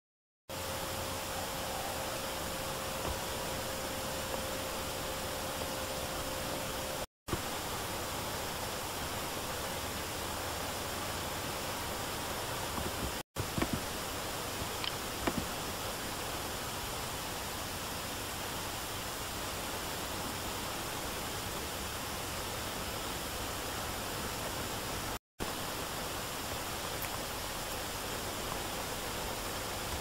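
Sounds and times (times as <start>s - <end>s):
recording hiss: 0.5s - 30.0s.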